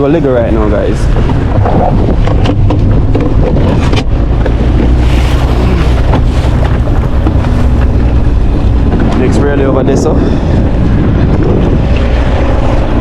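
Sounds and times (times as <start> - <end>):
boat motor running: 0.0 - 13.0
wind buffeting microphone: 0.0 - 13.0.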